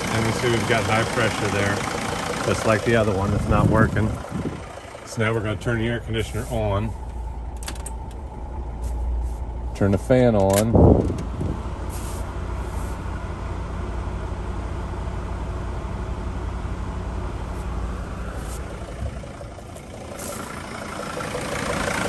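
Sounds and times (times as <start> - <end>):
dashboard blower fan: 0.0 - 14.3, 16.6 - 22.0
diesel engine idling: 0.0 - 22.0.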